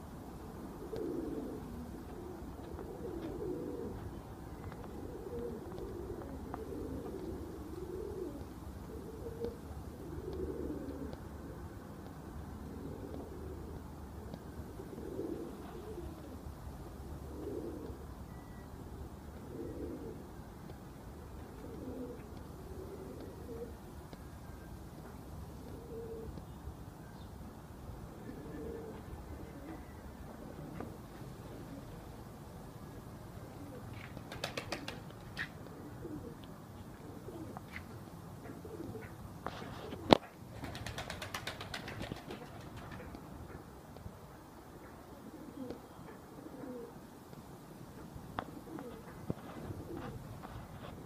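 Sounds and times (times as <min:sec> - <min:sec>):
pigeon cooing: 0:00.3 - 0:20.4, 0:21.3 - 0:24.6, 0:25.4 - 0:26.4, 0:28.1 - 0:32.1, 0:33.4 - 0:43.7, 0:44.9 - 0:47.1, 0:48.0 - 0:51.0.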